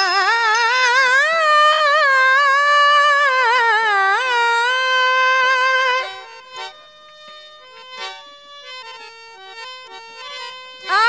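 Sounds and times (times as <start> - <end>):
harmonium playing: 0.0 - 11.0.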